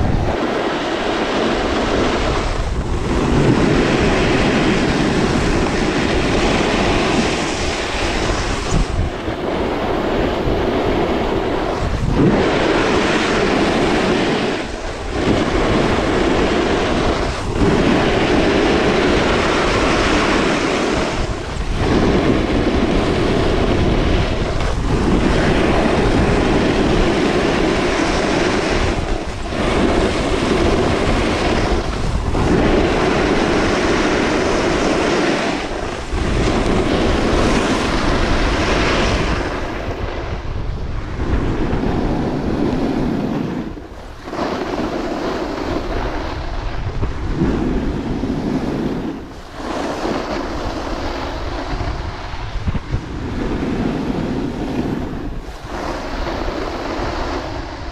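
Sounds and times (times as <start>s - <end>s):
snowboard edges scraping snow: 0.0s - 40.4s, 41.1s - 57.9s
wind on microphone: 0.0s - 57.9s.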